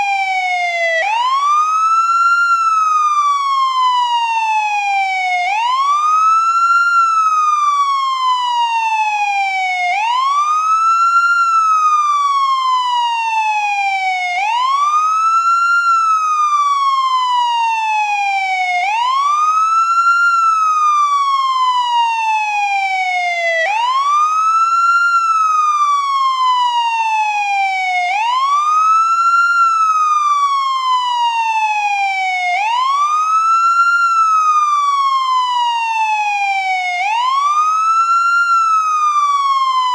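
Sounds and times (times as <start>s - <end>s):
ambulance wail siren: 0.0s - 39.9s.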